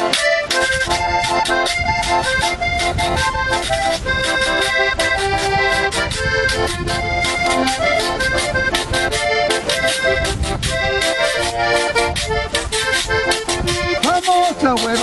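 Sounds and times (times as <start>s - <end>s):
button accordion melody: 0.0s - 15.0s
scraper rhythm: 0.0s - 15.0s.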